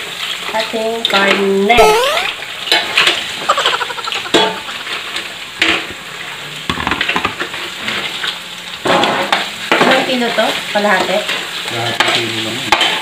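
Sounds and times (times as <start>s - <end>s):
meat sizzling in a wok: 0.0s - 1.8s, 2.4s - 13.0s.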